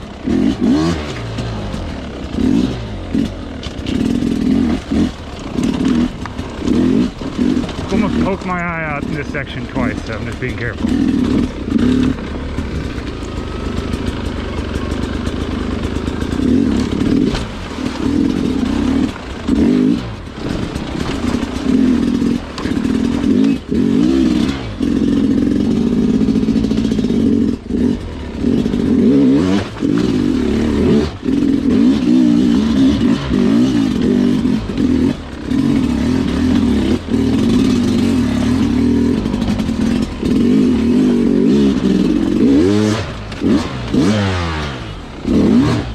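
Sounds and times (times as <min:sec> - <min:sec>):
dirt bike engine: 0:00.0 - 0:45.9.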